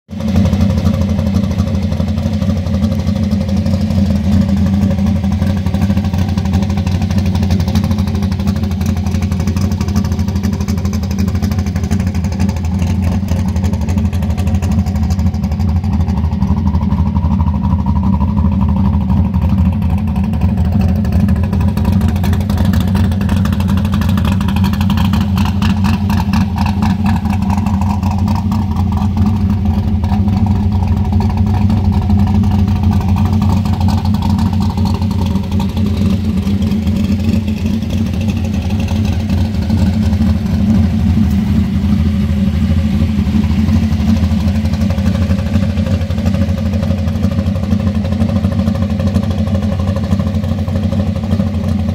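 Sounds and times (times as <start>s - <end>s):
car engine idling: 0.1s - 51.9s.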